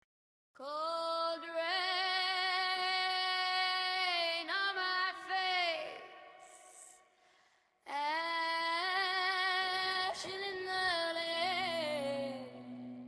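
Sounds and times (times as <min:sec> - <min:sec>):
woman singing wordlessly: 0:00.6 - 0:07.0, 0:07.9 - 0:13.0.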